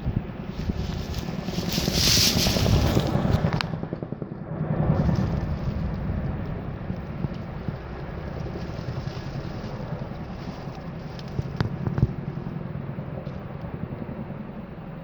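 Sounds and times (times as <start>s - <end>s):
helicopter rotors rumbling: 0.0s - 15.0s.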